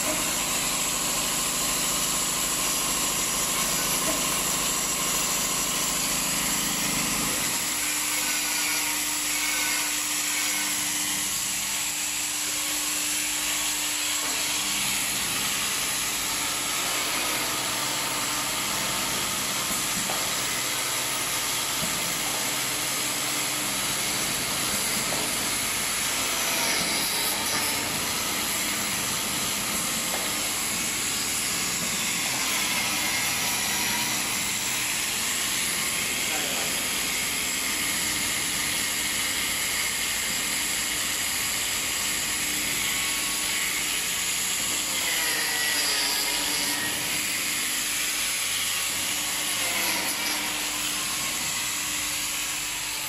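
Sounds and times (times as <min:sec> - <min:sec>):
sealing machine hissing and running: 0:00.0 - 0:53.0.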